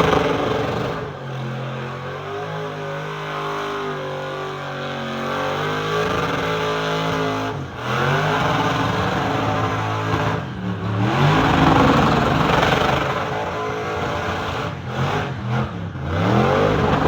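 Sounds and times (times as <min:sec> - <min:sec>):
truck engine revving: 0:00.0 - 0:02.0, 0:05.2 - 0:17.0.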